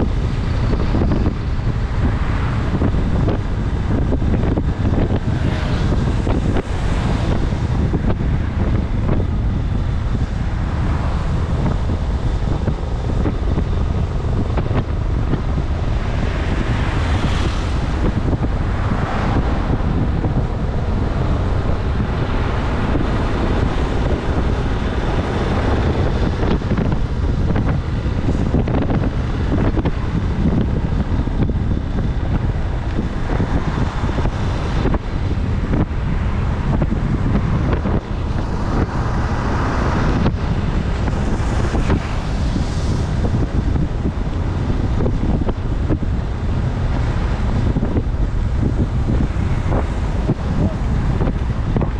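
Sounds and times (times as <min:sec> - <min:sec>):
road noise on wet tarmac: 0:00.0 - 0:51.9
wind rushing over microphone: 0:00.0 - 0:51.9.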